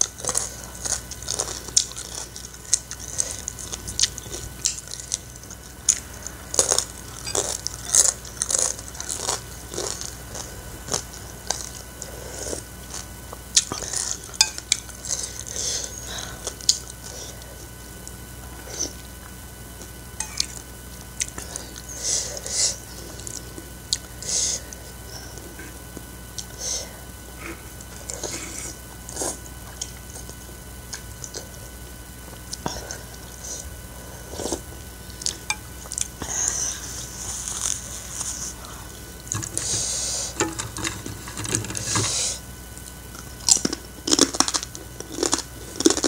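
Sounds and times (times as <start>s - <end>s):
crunching and chewing crisps: 0.0s - 46.0s.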